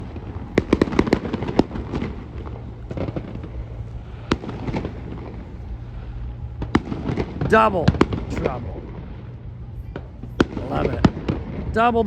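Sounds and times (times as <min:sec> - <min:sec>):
continuous low rumble: 0:00.0 - 0:12.0
fireworks bangs: 0:00.0 - 0:12.0.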